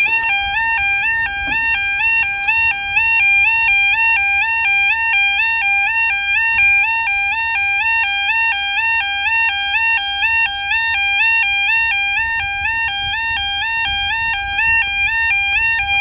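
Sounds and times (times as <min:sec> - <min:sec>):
electronic two-tone warning sounder: 0:00.0 - 0:16.0.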